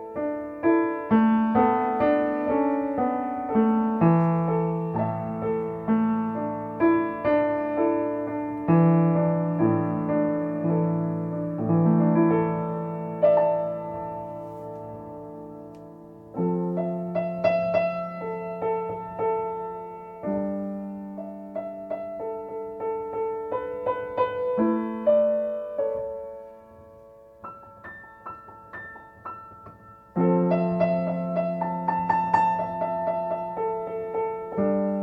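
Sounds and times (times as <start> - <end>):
slow calm piano music: 0.0 - 35.0.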